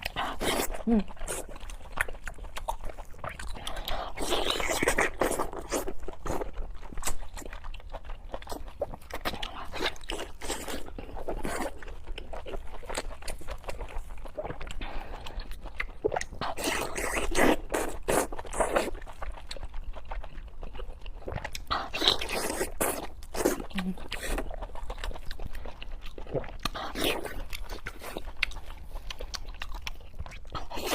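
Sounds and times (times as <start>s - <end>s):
chewing and crunching food: 0.0s - 30.9s.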